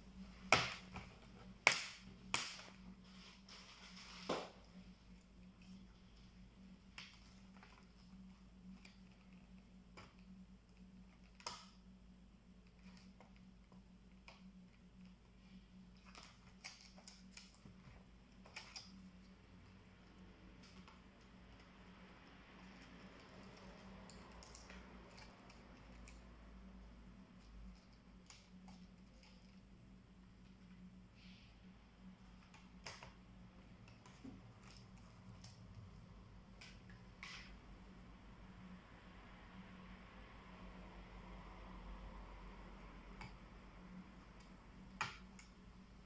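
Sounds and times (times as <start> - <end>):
low steady hum: 0.0 - 46.0.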